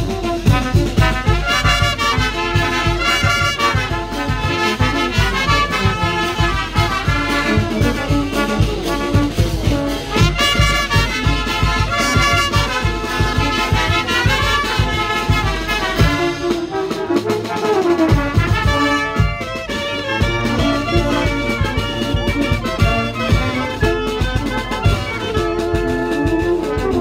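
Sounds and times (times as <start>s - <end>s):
brass band dance music: 0.0s - 27.0s
trumpets playing melody: 0.0s - 27.0s.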